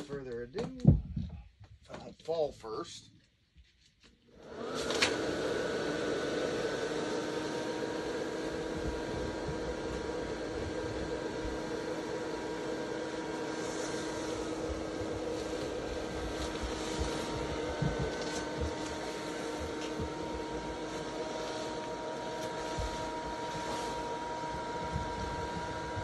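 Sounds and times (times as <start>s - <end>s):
electric blower fan humming: 4.3s - 26.0s.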